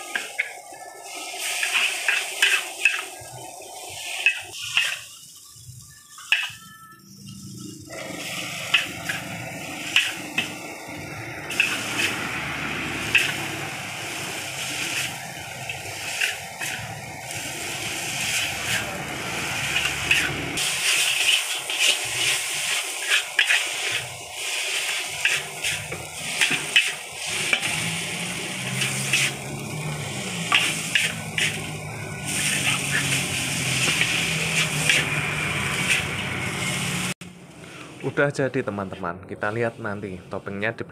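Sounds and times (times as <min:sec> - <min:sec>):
metal spatula scraping wok: 0:00.0 - 0:05.2, 0:06.0 - 0:37.1
noodles sizzling in a wok: 0:00.0 - 0:37.2.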